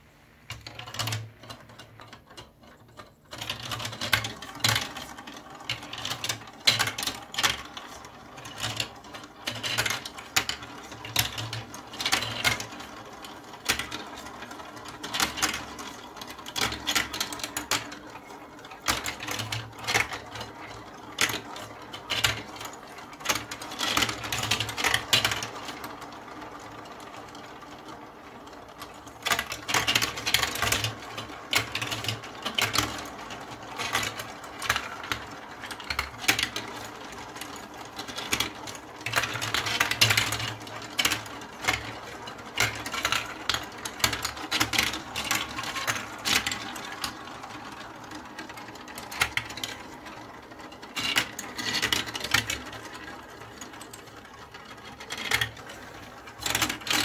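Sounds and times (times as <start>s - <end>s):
plastic balls rattling in marble run: 0.4s - 57.0s.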